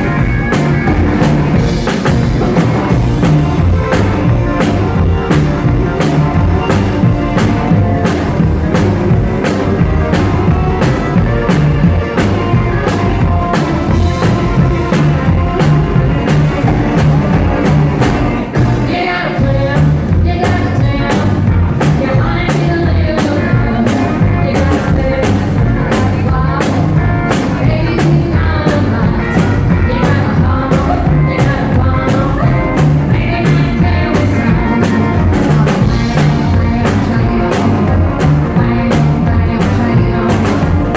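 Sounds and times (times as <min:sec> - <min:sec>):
drum kit fast beat: 0:00.0 - 0:40.9
live rockabilly band playing: 0:00.0 - 0:40.9.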